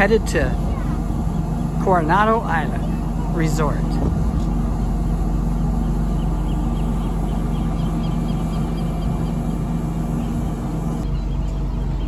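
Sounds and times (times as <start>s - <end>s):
ferry engine drone: 0.0s - 12.0s
wind: 0.0s - 12.0s.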